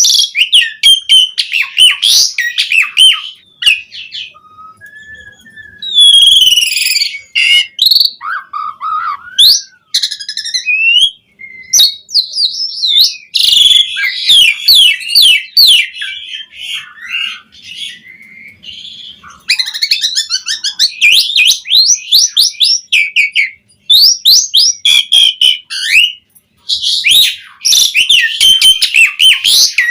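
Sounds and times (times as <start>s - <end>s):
starling singing: 0.0s - 29.9s.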